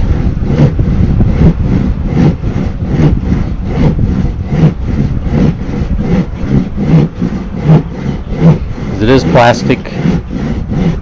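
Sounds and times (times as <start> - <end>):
hand saw cutting plastic board: 0.4 - 11.0.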